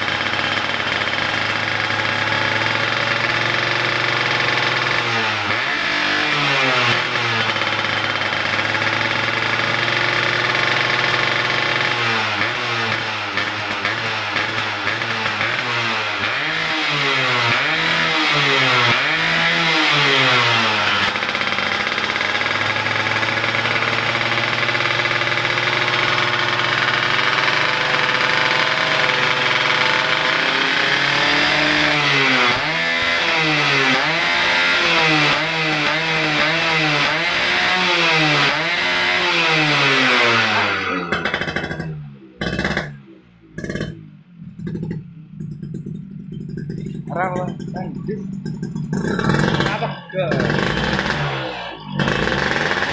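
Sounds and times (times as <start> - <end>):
two-stroke engine revving: 0.0 - 52.9.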